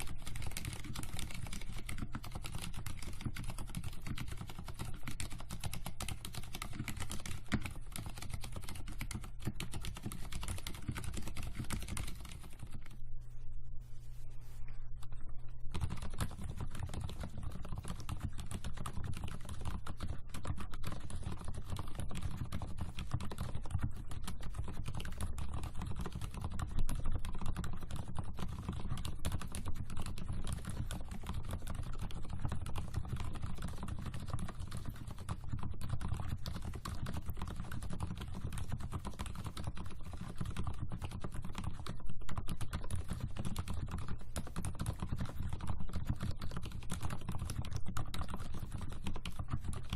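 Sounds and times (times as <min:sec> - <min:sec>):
fast typing on keyboard: 0:00.0 - 0:13.0, 0:15.6 - 0:49.9.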